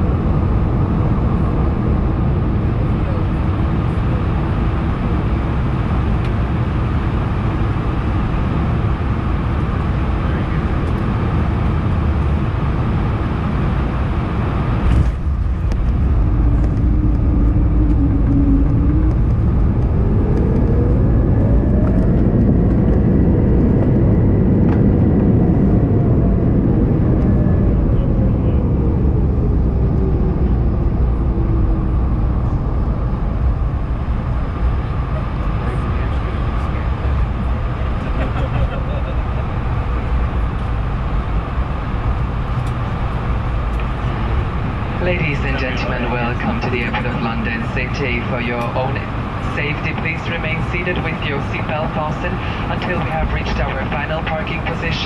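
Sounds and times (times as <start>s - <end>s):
aircraft cabin rumble: 0.0s - 55.0s
jet engines whining: 0.0s - 55.0s.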